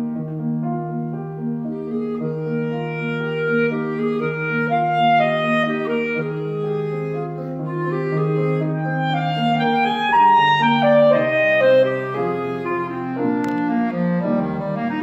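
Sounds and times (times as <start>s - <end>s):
clarinet melody: 0.0s - 15.0s
piano accompaniment: 0.0s - 15.0s.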